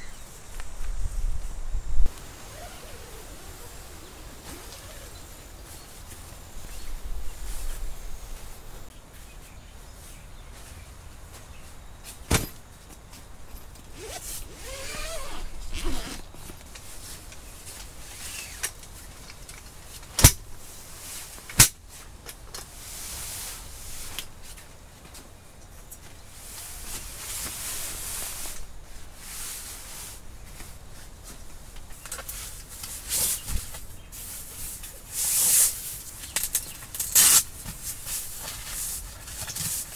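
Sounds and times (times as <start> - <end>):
tent fabric rustling: 0.0 - 12.6, 13.4 - 19.2, 26.0 - 39.9.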